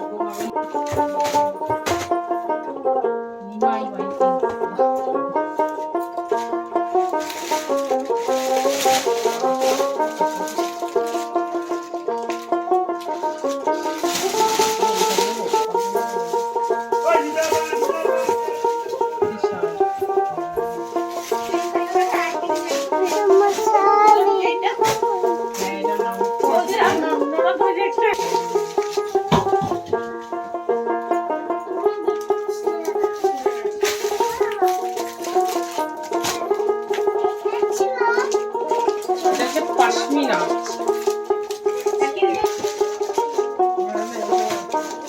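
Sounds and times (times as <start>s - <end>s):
plucked-string background music: 0.0s - 45.0s.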